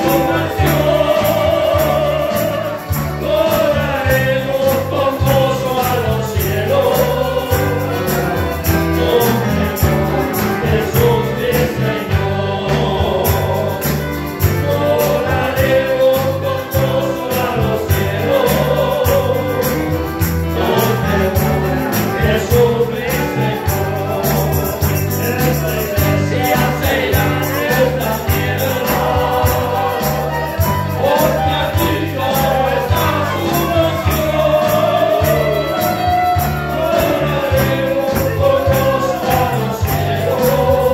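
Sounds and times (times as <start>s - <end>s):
band accompaniment with steady beat: 0.0s - 40.9s
group singing praise song: 0.0s - 40.9s.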